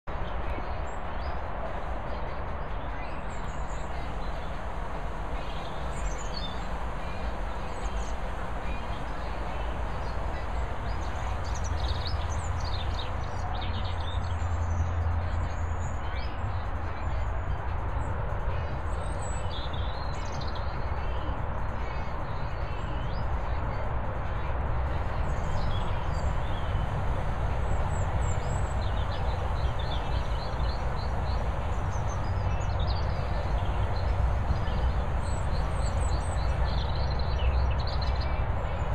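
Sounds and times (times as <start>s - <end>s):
small birds chirping: 0.0s - 38.9s
low outdoor rumble and hiss: 0.1s - 38.9s.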